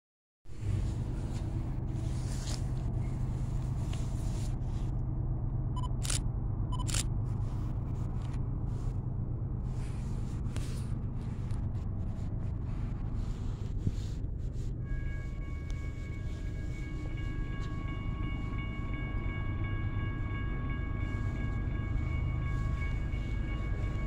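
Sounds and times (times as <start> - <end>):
low outdoor rumble with hiss: 0.5 - 21.2.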